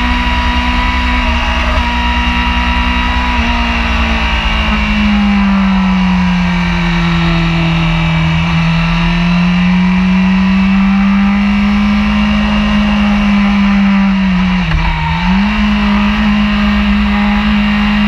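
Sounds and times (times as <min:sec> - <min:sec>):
motorcycle engine revving high: 0:00.0 - 0:18.0.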